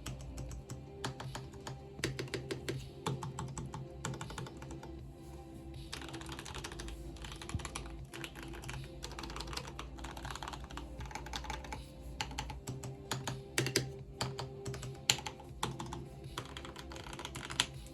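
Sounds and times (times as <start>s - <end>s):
mechanical keyboard typing: 0.0s - 4.9s, 5.9s - 17.8s.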